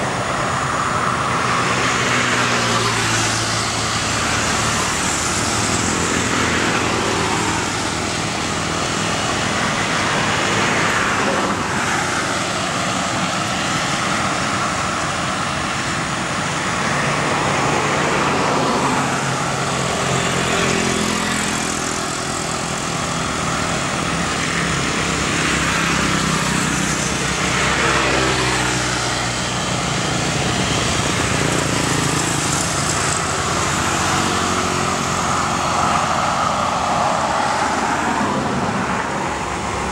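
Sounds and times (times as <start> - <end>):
distant jet engines rushing: 0.0 - 39.9.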